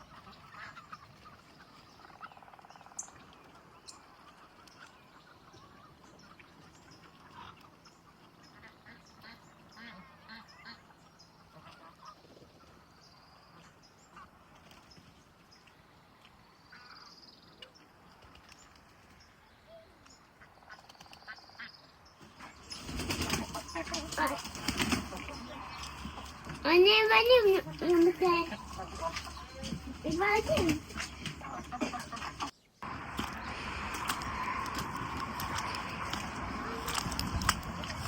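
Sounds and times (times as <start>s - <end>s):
farmyard birds calling: 0.0s - 18.0s, 19.2s - 38.0s.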